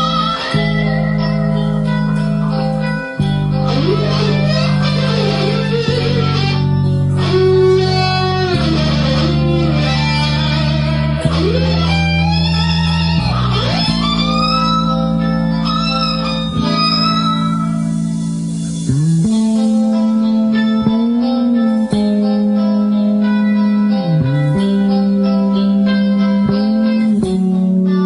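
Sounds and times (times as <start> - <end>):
electric lead guitar melody: 0.0 - 28.0
rock ballad chords: 0.0 - 28.0
sustained bass: 0.0 - 28.0.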